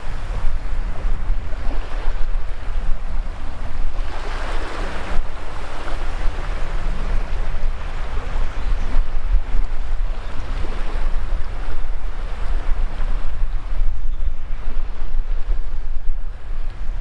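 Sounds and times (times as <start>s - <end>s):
small waves washing on shore: 0.0s - 17.0s
wind rumble on microphone: 0.0s - 17.0s.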